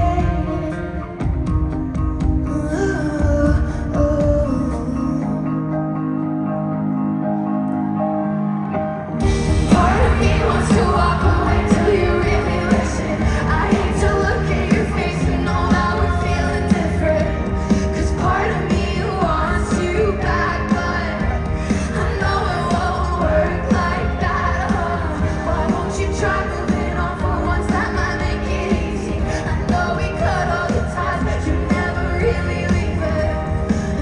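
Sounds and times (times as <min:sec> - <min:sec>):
woman singing: 0:00.0 - 0:06.1, 0:09.2 - 0:34.0
live pop band playing: 0:00.0 - 0:34.0.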